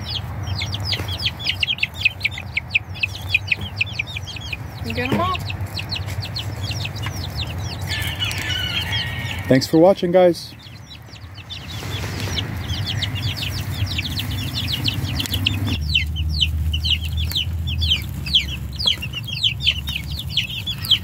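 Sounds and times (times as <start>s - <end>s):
low background rumble: 0.0s - 9.5s, 10.5s - 21.0s
chicks peeping: 0.0s - 21.0s.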